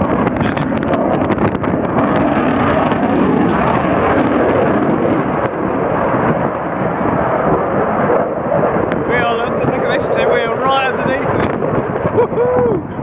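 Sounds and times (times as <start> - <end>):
jet engines roaring in flight: 0.0 - 13.0.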